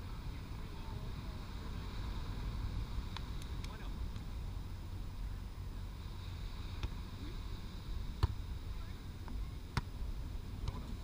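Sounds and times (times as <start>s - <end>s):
low wind rumble: 0.0s - 11.0s.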